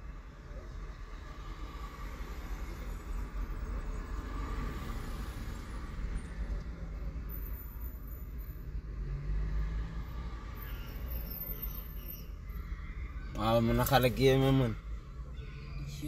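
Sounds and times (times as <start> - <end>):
car passing: 0.0 - 7.6, 8.2 - 16.0
road traffic rumbling: 0.0 - 16.0.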